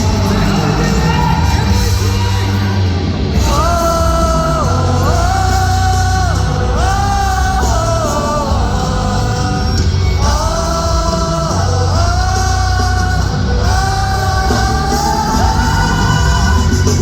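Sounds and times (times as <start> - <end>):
live rock band playing ballad: 0.0 - 17.0
long held high notes sliding: 0.0 - 17.0.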